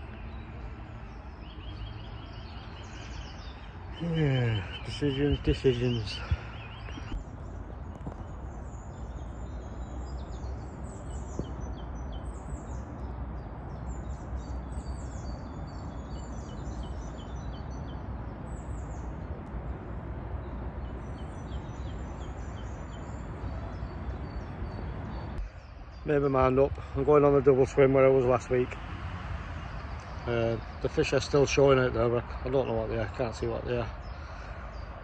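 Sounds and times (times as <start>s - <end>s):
outdoor rumble and hiss: 0.0s - 35.0s
small birds chirping: 0.0s - 35.0s.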